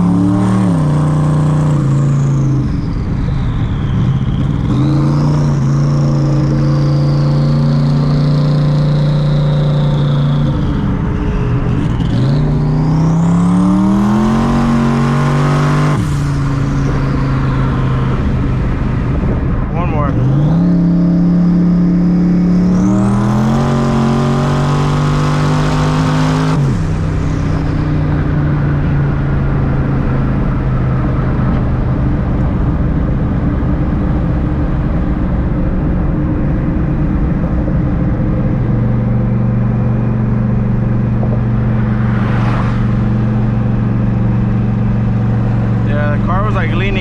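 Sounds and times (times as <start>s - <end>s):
car engine at full throttle: 0.0s - 47.0s.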